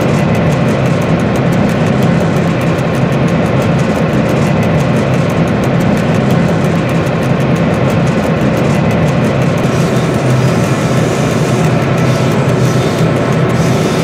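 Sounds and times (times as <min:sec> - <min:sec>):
diesel engine drone: 0:00.0 - 0:14.0
train running on track: 0:00.0 - 0:14.0.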